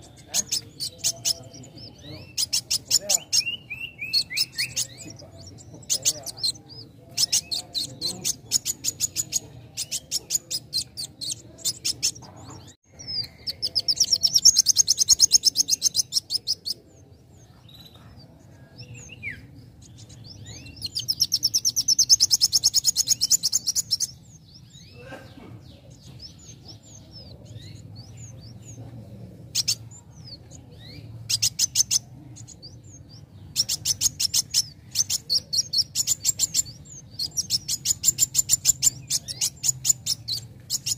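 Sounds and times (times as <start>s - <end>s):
sunbird trilling: 0.0s - 28.8s, 29.4s - 40.9s.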